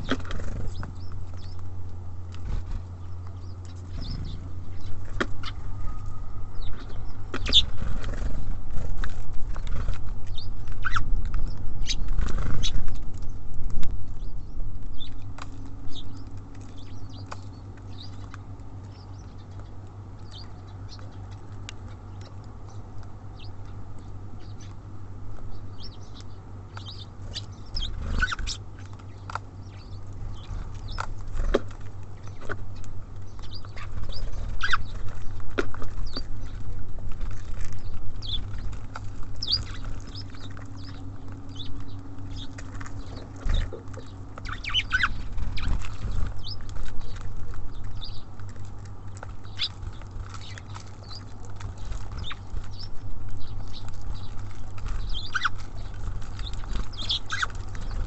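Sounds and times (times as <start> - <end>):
beaks pecking on feeder: 0.0 - 58.0
steady low hum: 0.0 - 58.0.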